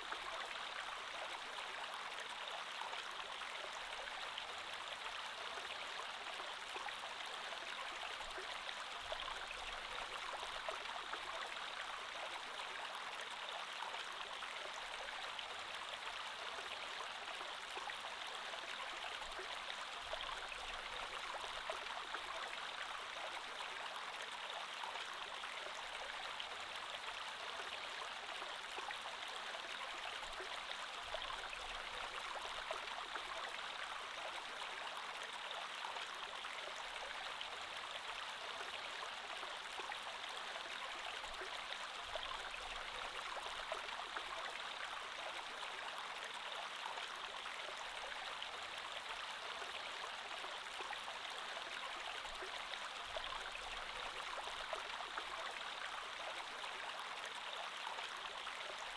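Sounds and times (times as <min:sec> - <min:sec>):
creek water flowing over stones: 0:00.0 - 0:58.9.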